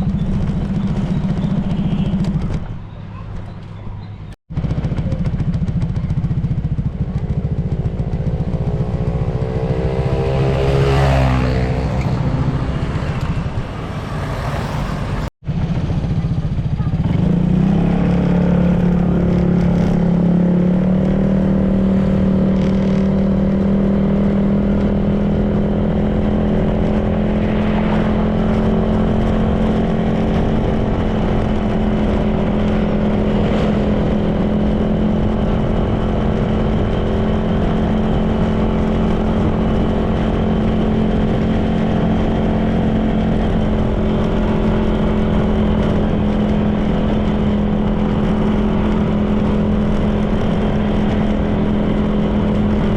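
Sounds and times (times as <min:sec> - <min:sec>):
road rumble: 0:00.0 - 0:52.9
scooter engine cruising: 0:00.0 - 0:52.9
wind on microphone: 0:00.0 - 0:52.9.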